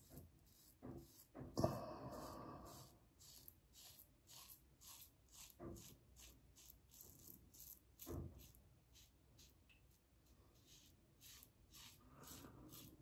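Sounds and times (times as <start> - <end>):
razor scraping stubble: 0.0 - 9.7, 10.5 - 13.0.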